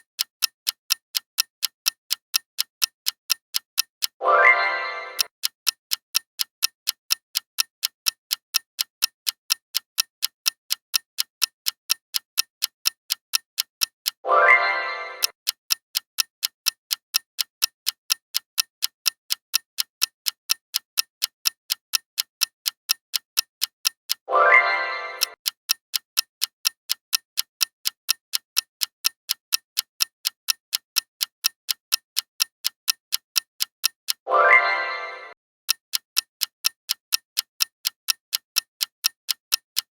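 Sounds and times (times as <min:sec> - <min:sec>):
countdown timer ticking: 0:03.8 - 0:16.2, 0:19.8 - 0:39.9.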